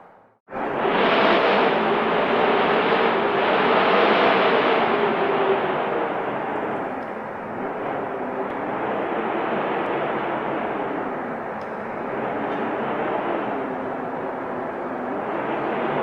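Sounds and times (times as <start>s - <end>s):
wind blowing in gusts: 0.0s - 16.0s.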